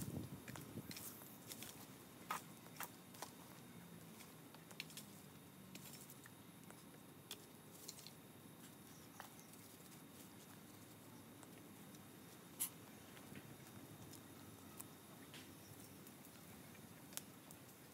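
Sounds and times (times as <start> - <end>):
twigs crackling in small fire: 0.0 - 17.9.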